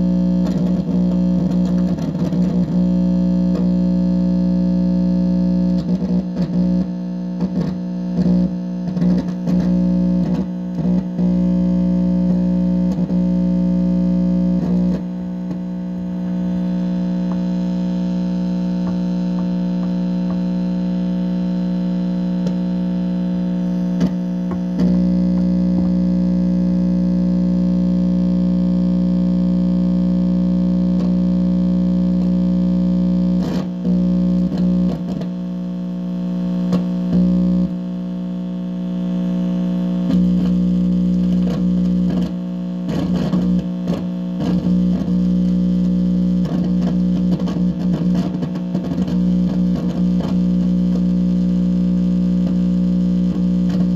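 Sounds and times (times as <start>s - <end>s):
electrical buzzing hum: 0.0s - 53.9s
speaker crackles and pops: 0.0s - 53.9s.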